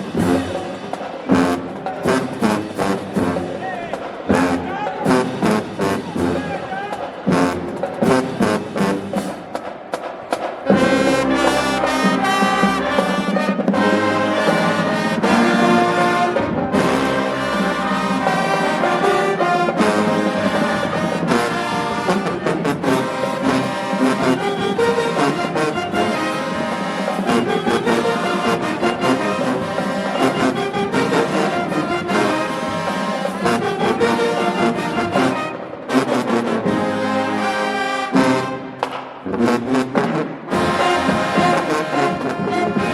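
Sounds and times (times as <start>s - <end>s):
marching band playing: 0.0s - 42.9s.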